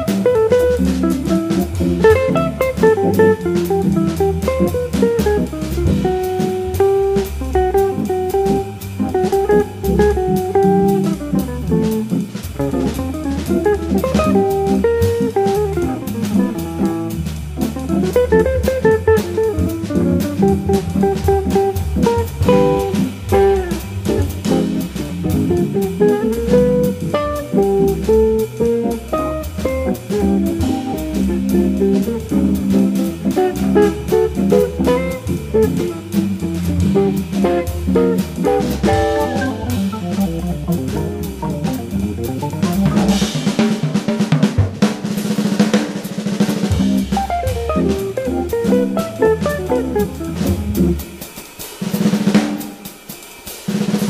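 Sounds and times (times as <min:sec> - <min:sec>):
bass: 0:00.0 - 0:51.3
electric jazz guitar solo: 0:00.0 - 0:52.8
drum kit: 0:00.0 - 0:54.0.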